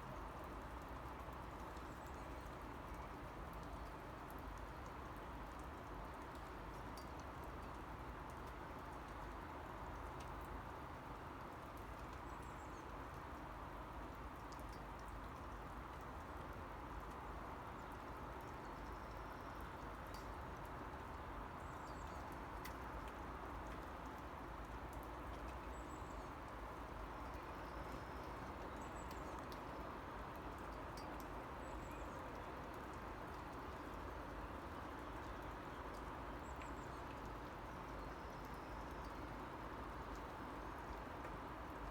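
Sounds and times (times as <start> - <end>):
raindrops ticking: 0.0 - 41.9.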